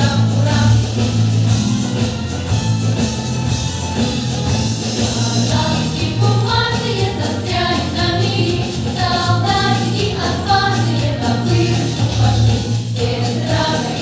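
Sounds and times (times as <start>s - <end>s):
children's choir singing pop song: 0.0s - 2.2s, 4.9s - 14.0s
band with bass and drum beat: 0.0s - 14.0s.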